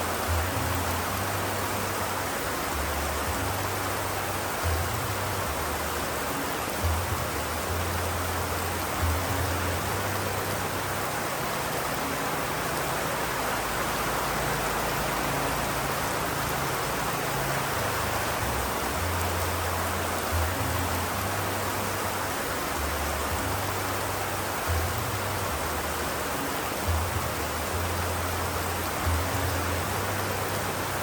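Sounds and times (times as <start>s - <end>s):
steady rain: 0.0s - 31.0s.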